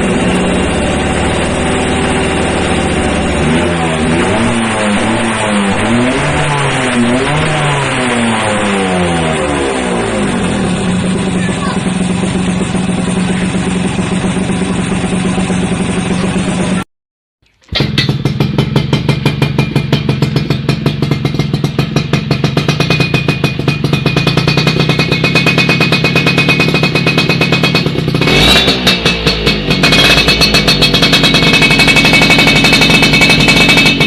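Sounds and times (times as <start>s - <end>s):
motorcycle exhaust popping: 0.0s - 16.8s, 17.4s - 34.0s
motorcycle idling: 0.0s - 16.8s, 17.7s - 34.0s.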